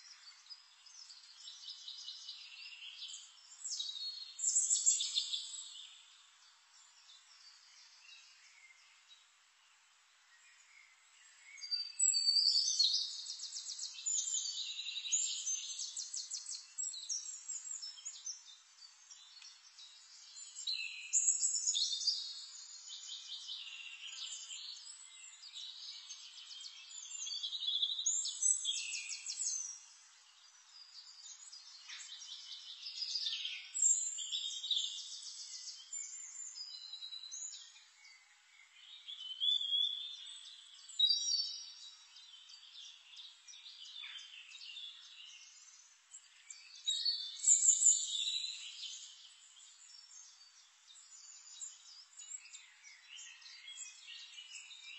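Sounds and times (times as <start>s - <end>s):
birds chirping and trilling: 0.0s - 9.4s, 10.3s - 54.9s.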